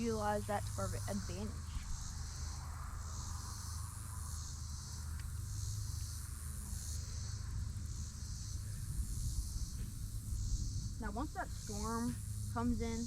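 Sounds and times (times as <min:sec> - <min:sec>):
insects chorus: 0:00.0 - 0:13.0
low steady rumble: 0:00.0 - 0:13.0.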